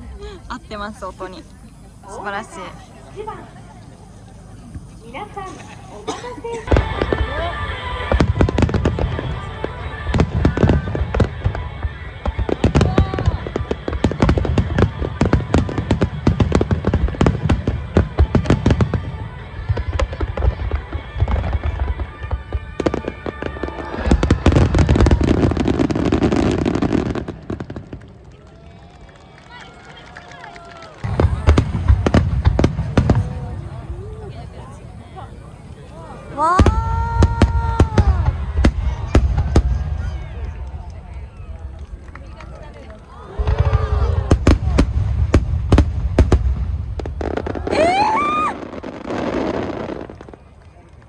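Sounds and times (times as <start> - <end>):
fireworks booming and crackling: 0.0 - 51.0.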